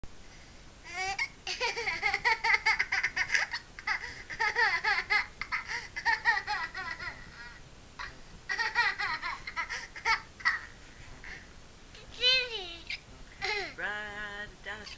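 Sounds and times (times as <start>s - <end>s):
baby laughing: 0.9s - 11.4s, 12.0s - 13.8s.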